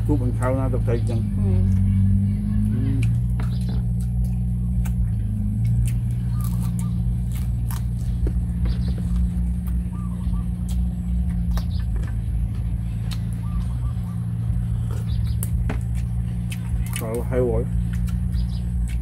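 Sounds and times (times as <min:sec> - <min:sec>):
steady low hum: 0:00.0 - 0:19.0
chewing crispy food: 0:01.8 - 0:19.0.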